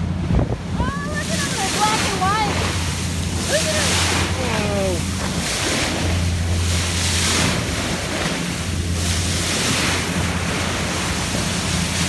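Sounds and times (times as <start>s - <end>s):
low engine hum: 0.0s - 12.0s
sea water rushing past a hull: 0.0s - 12.0s
wind buffeting the microphone: 0.0s - 12.0s.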